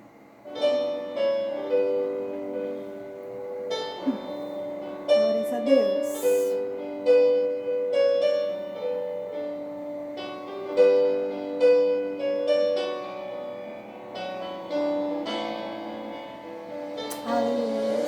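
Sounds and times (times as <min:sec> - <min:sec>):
slow gentle piano: 0:00.0 - 0:18.0.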